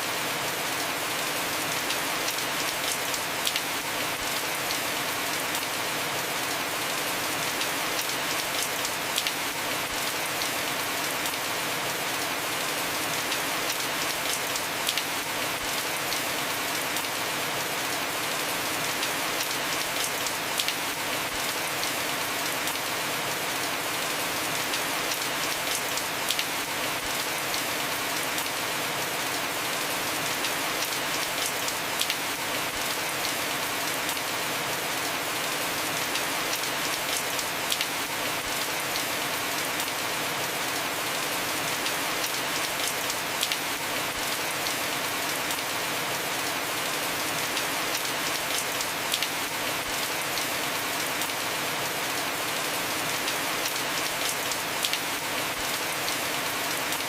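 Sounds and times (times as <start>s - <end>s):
heavy rain on roof: 0.0s - 57.0s.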